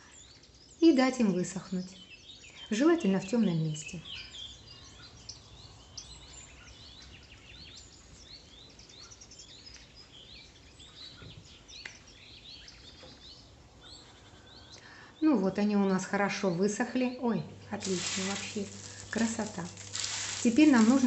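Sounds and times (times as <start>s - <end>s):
faint birdsong chirps: 0.0s - 21.0s.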